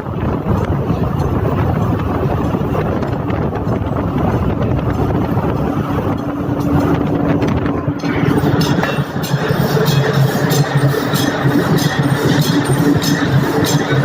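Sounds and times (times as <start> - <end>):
heavy industrial machinery din: 0.0 - 14.0.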